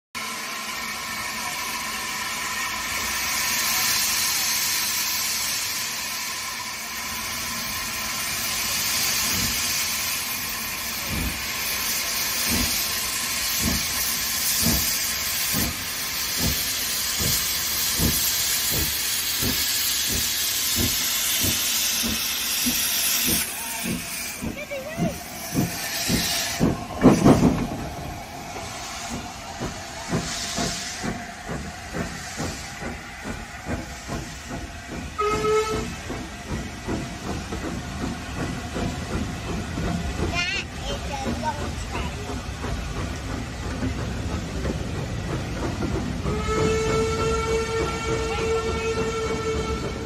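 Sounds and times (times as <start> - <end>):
hiss of escaping steam: 0.2 - 50.0
steam locomotive exhaust chuffs: 0.2 - 50.0.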